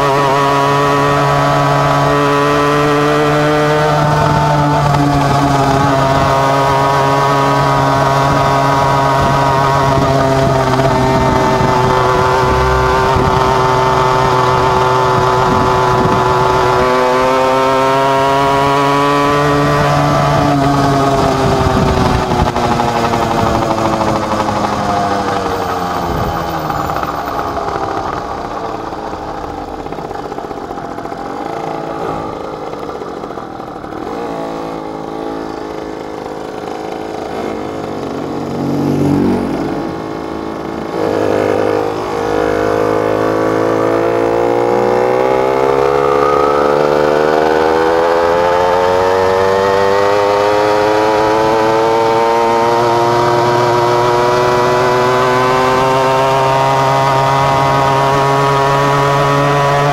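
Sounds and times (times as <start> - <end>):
minimoto engine running: 0.0 - 59.9.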